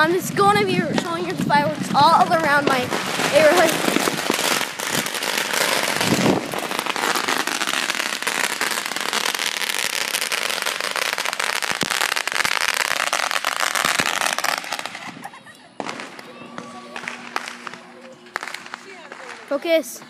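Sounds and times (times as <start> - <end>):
firecrackers popping: 0.0 - 20.0.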